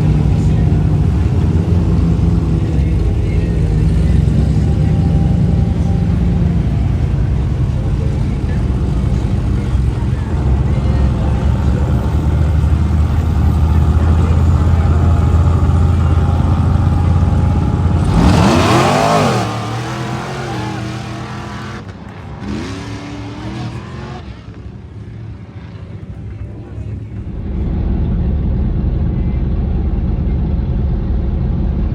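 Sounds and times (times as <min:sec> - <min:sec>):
race vehicle engine revving: 0:00.0 - 0:31.9.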